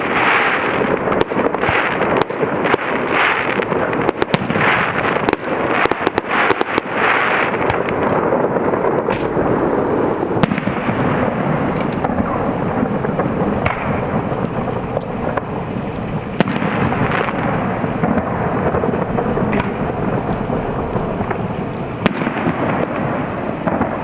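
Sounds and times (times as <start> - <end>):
firework shells booming: 0.0 - 24.0
sharp firework reports: 0.0 - 24.0.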